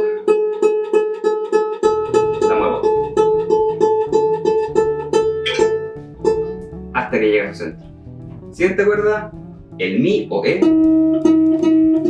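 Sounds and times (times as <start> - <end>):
ukulele string plucked: 0.0 - 9.5, 10.2 - 12.0.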